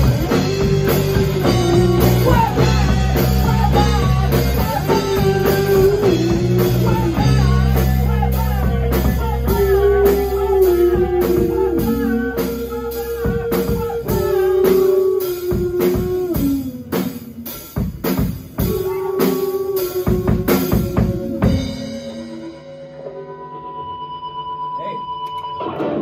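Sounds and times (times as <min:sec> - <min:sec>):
electric bass: 0:00.0 - 0:23.8
drum kit: 0:00.0 - 0:26.0
electric guitars: 0:00.0 - 0:26.0.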